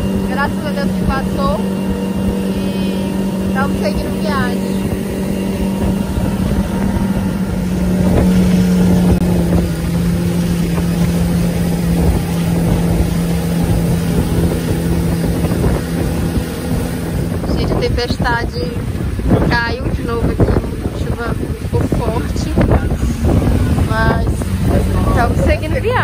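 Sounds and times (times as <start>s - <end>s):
rush of wind and water: 0.0s - 26.0s
speedboat engine running: 0.0s - 26.0s.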